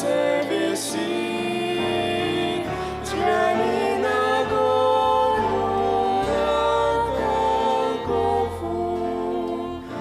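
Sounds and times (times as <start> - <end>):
slow hymn sung with accompaniment: 0.0 - 10.0.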